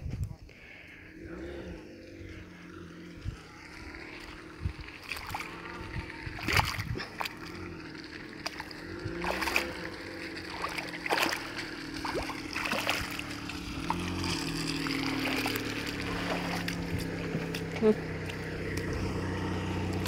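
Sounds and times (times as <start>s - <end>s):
vehicle engine running: 0.0s - 20.0s
water splashing and sloshing: 1.0s - 20.0s.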